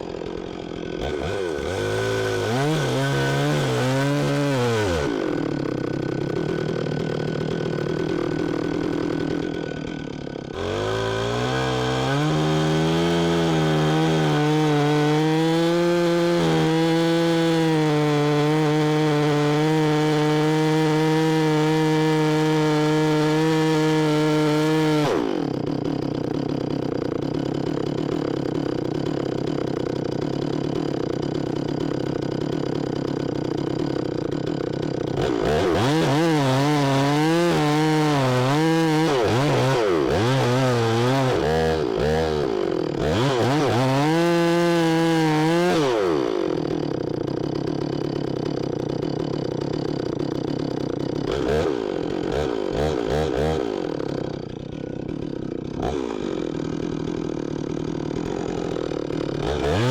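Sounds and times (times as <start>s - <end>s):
chainsaw revving: 0.0s - 59.9s.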